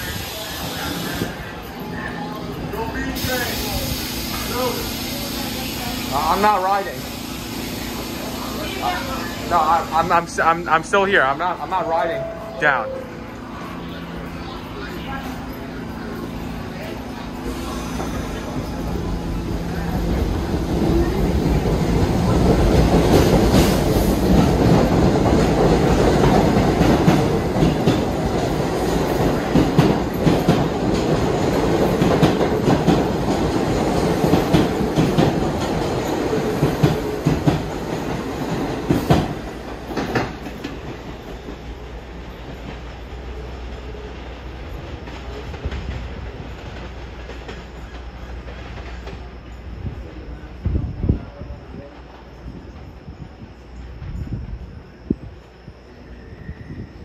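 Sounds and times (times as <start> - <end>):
subway train running: 0.0 - 57.0.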